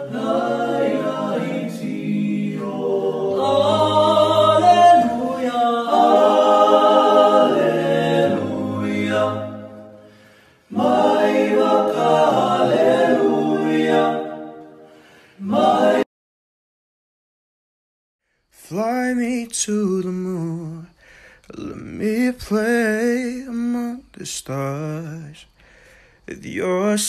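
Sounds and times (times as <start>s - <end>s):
male a cappella group singing: 0.0s - 16.1s, 18.6s - 25.5s, 26.3s - 27.0s.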